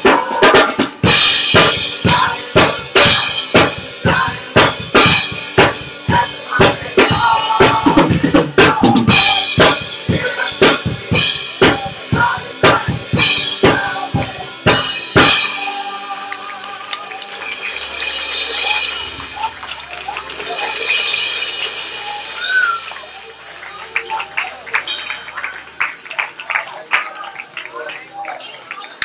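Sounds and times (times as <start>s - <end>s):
drum kit playing a fast beat: 0.0s - 29.0s.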